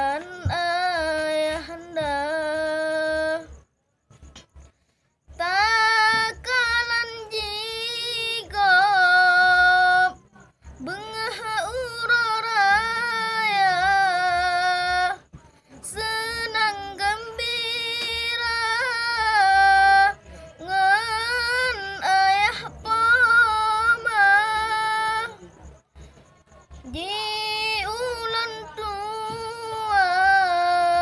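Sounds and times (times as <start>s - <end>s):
boy chanting: 0.0s - 3.6s, 5.3s - 25.8s, 26.7s - 31.0s.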